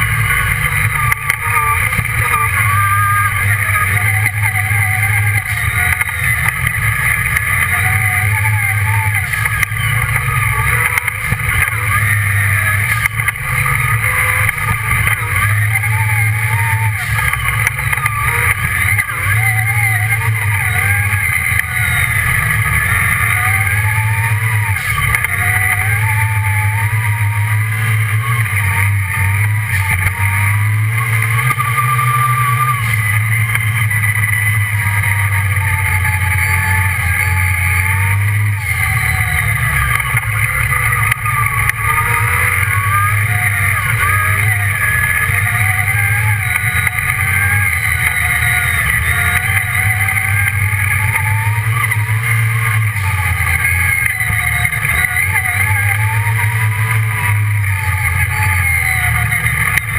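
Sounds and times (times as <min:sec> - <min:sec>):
buggy engine running: 0:00.0 - 0:59.9.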